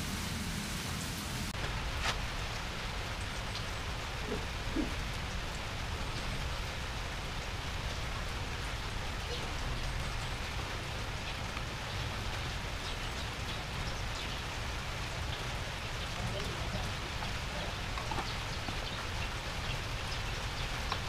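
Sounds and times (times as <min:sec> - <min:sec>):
rain on wet concrete: 0:00.0 - 0:21.0.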